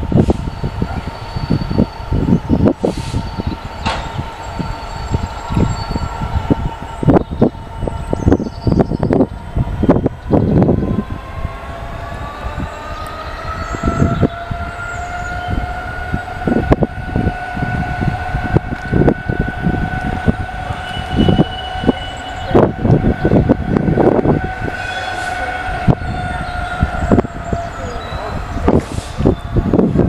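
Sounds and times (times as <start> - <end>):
diesel train whine: 0.0 - 30.0
train low rumble: 0.0 - 30.0.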